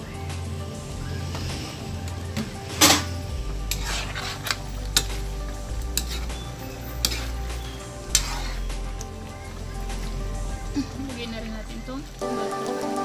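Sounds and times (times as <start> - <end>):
steady low hum: 0.0 - 12.3
spatula scraping metal pan: 0.8 - 12.2.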